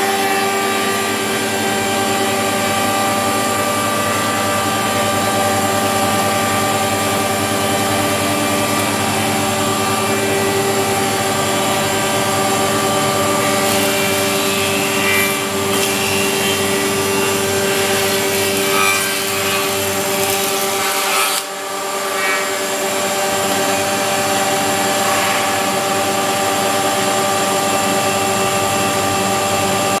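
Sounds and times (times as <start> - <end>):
planer motors humming and whining: 0.0 - 29.9.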